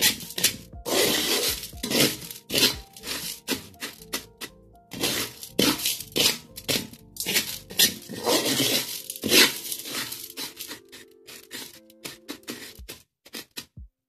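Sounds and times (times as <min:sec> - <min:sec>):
spatula scraping a metal wok: 0:00.0 - 0:13.8.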